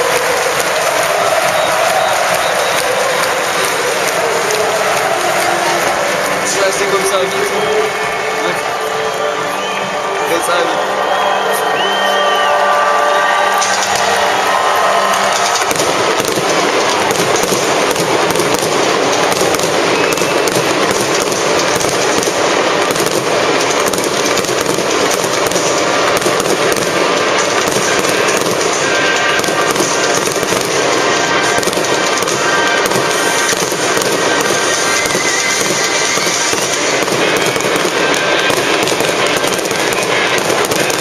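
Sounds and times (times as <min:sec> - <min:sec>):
fireworks crackling and banging: 0:00.0 - 0:41.0.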